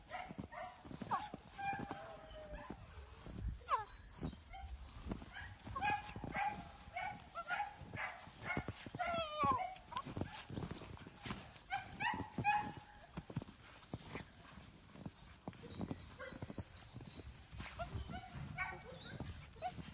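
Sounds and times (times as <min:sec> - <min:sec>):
puppy whining and yipping: 0:00.5 - 0:12.9, 0:13.9 - 0:19.9.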